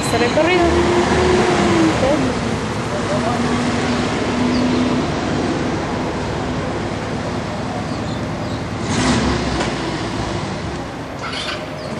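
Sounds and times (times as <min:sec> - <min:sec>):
traffic noise: 0:00.0 - 0:11.9
vehicle passing: 0:00.0 - 0:11.9.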